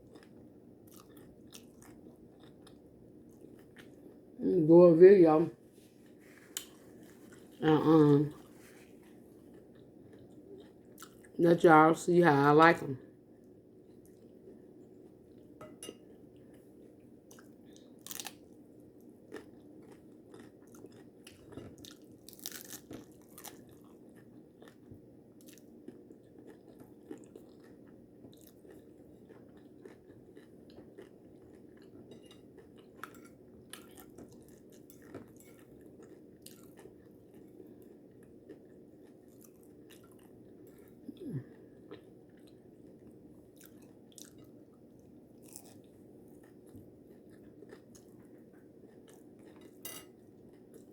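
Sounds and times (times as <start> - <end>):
crunching and chewing food: 0.0 - 4.4, 5.6 - 11.4, 13.0 - 50.9
faint low hum: 0.0 - 50.9.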